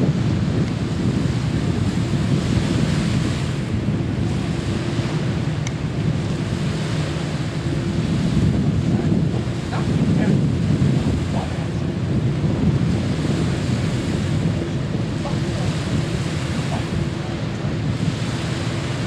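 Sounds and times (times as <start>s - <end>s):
sea rushing: 0.0s - 19.0s
wind buffeting microphone: 0.0s - 19.0s.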